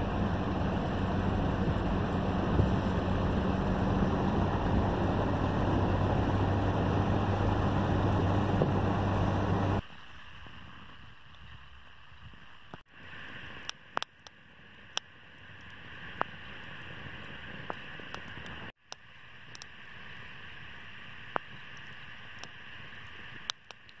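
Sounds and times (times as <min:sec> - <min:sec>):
bonfire crackling and hissing: 0:00.0 - 0:24.0.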